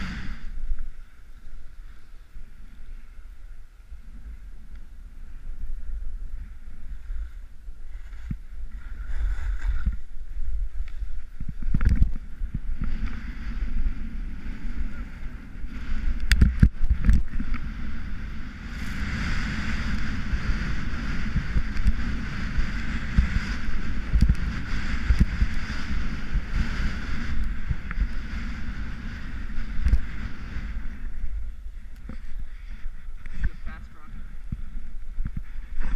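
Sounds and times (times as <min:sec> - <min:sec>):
skis scraping over snow: 0:00.0 - 0:35.9
wind buffeting microphone: 0:00.0 - 0:35.9.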